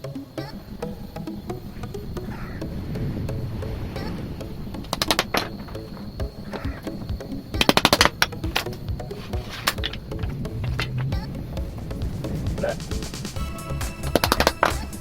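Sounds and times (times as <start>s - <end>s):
sharp clicking taps: 0.0s - 13.4s
background music: 0.0s - 15.0s.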